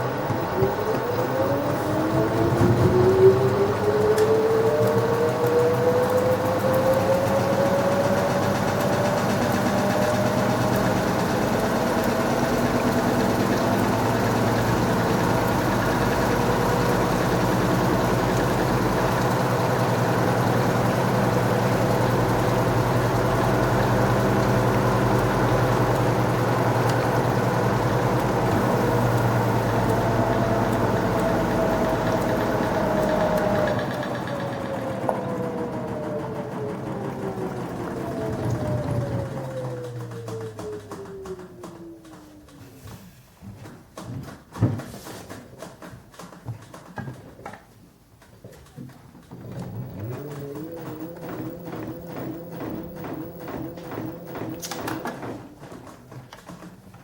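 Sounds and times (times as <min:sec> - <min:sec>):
washing machine drum spinning: 0:00.0 - 0:42.8, 0:49.2 - 0:57.0.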